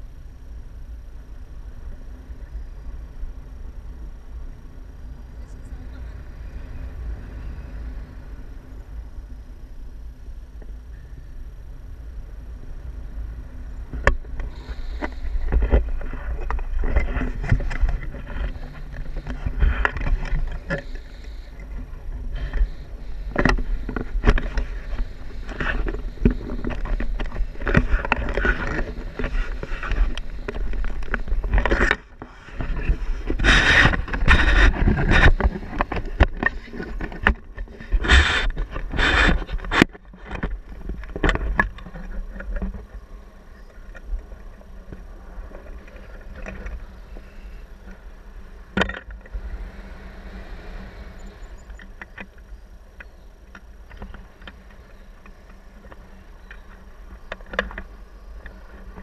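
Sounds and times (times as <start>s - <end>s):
wind buffeting a microphone: 0.0s - 59.0s.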